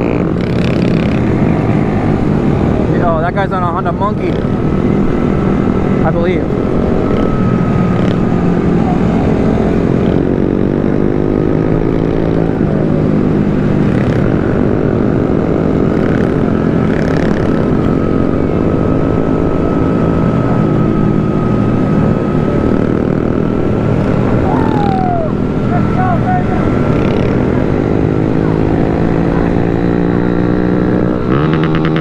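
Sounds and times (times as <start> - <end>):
small motorcycle engines running: 0.0 - 32.0.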